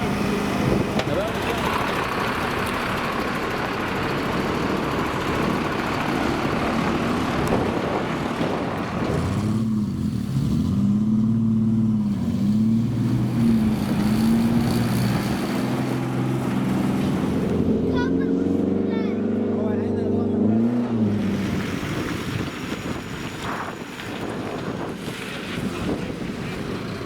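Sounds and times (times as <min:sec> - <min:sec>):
engine revving: 0:00.0 - 0:27.0
racing car engines: 0:00.0 - 0:27.0.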